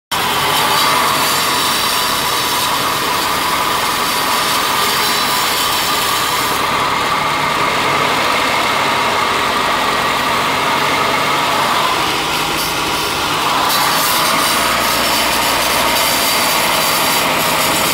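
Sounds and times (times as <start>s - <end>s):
car engine idling: 0.1s - 17.9s.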